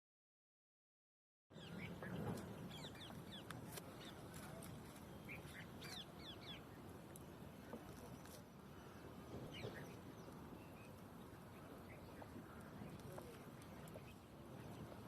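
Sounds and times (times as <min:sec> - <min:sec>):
birds chirping: 0:01.5 - 0:15.0
low rumble of traffic: 0:01.5 - 0:15.0.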